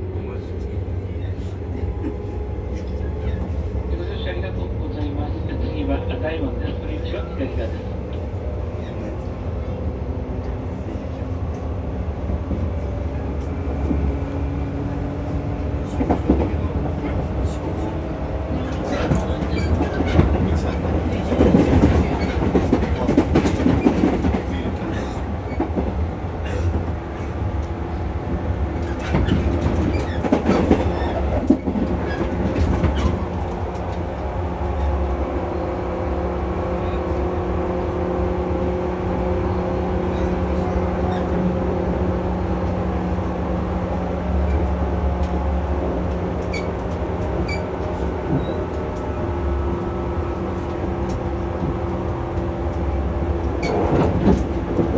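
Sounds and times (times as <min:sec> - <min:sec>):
train running noise: 0:00.0 - 0:54.9.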